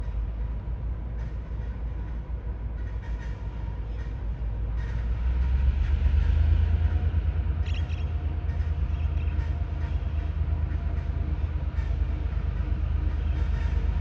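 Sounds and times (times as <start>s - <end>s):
locomotive rumbling: 0.0s - 14.0s.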